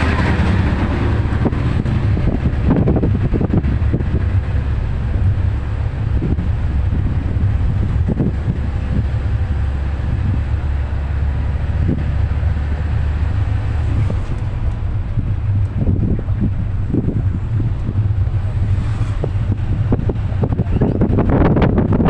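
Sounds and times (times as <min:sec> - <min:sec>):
minibus rumbling on road: 0:00.0 - 0:22.0.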